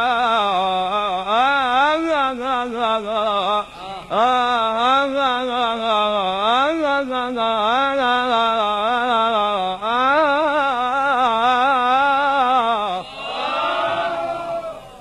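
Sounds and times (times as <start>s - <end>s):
man singing religious chant: 0.0s - 14.7s.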